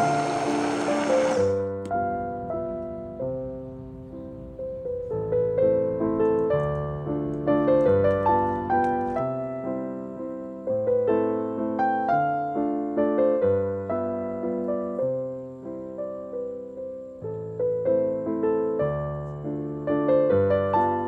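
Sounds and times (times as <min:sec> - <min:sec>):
slow piano melody: 0:00.0 - 0:21.0.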